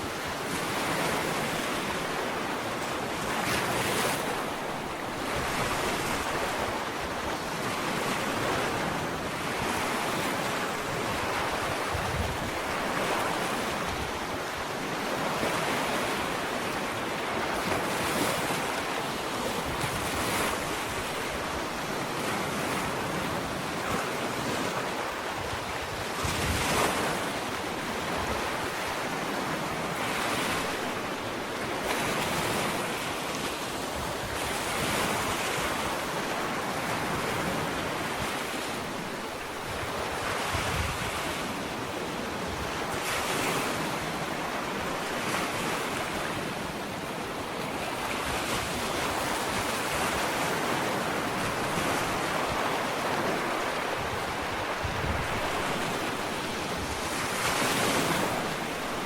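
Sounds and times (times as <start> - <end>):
ocean waves breaking on beach: 0.0 - 59.0
wind on microphone: 0.0 - 59.0.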